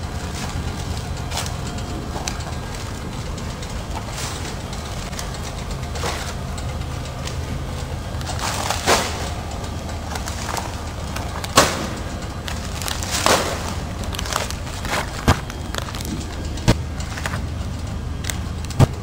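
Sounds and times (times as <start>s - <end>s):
packing machine humming: 0.0s - 19.0s
sharp machine clacks: 0.0s - 19.0s.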